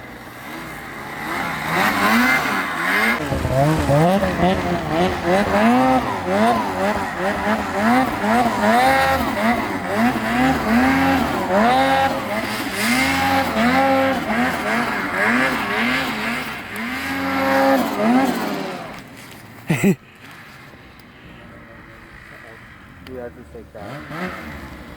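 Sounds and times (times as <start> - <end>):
snowmobile engine revving: 0.0 - 20.6, 21.3 - 24.9.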